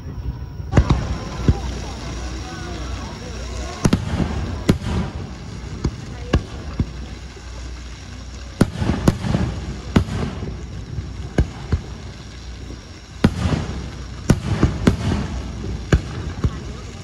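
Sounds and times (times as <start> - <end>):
fireworks bangs: 0.0 - 17.0
low rolling rumble: 0.0 - 17.0.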